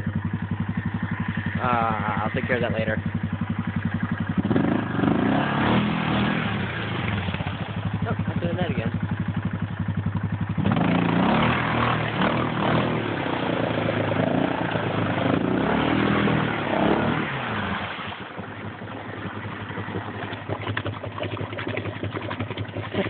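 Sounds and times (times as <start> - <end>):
atv engine revving and idling: 0.0 - 23.0.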